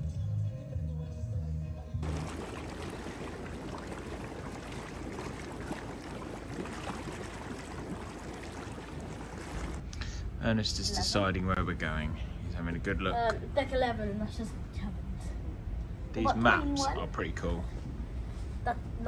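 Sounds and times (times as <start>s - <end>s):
hot tub jets bubbling: 2.0s - 14.1s, 15.0s - 19.0s.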